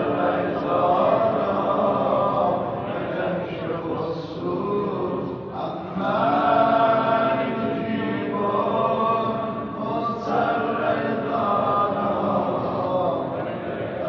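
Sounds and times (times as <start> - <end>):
men chanting a lament: 0.0 - 14.0.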